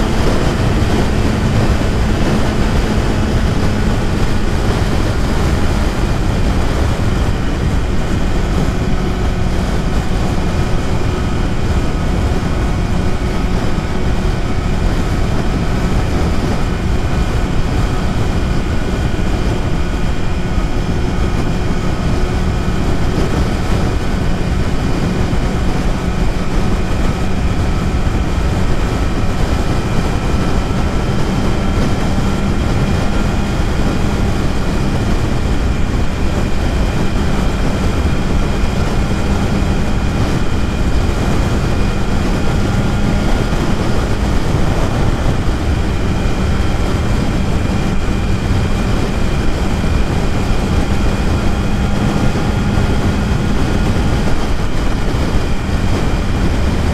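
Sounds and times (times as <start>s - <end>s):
motorcycle engine running: 0.0s - 56.9s
rushing noise: 0.0s - 56.9s.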